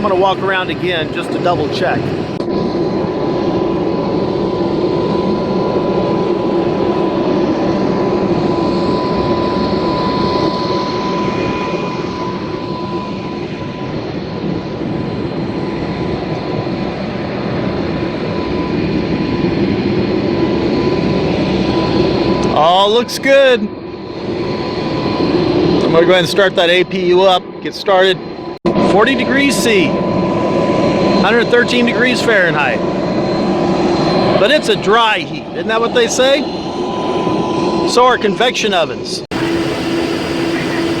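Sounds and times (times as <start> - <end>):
turbine roar with high whine: 0.0 - 41.0.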